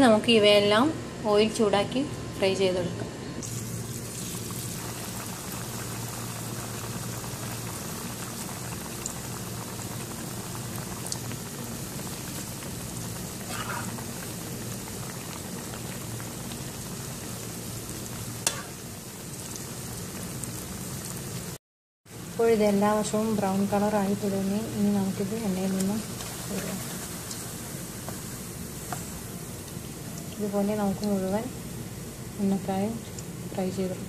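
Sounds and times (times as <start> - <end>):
dumplings deep-frying in oil: 3.4 - 34.0.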